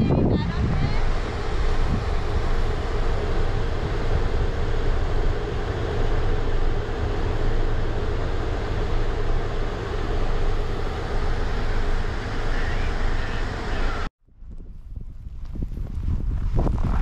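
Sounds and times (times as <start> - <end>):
idling traffic rumble: 0.0 - 14.1
constant hum: 0.0 - 17.0.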